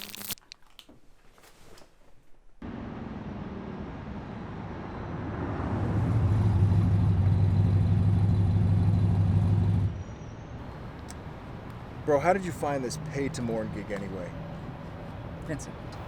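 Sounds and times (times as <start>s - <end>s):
road noise: 2.6s - 16.0s
vehicle engine droning: 2.6s - 16.0s.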